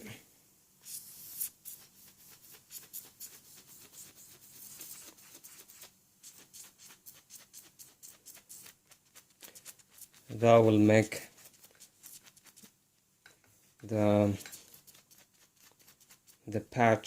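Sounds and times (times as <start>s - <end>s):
sanding tool scratching rubber: 0.8s - 12.7s, 13.9s - 16.6s.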